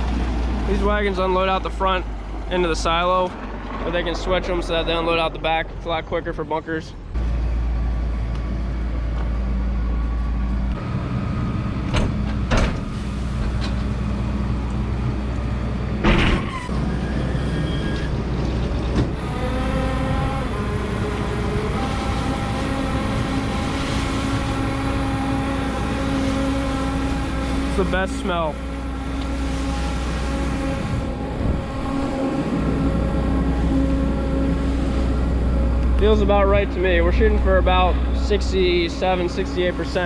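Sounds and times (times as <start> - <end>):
steady machine whine: 0.0 - 40.0
tractor engine drone: 0.0 - 40.0.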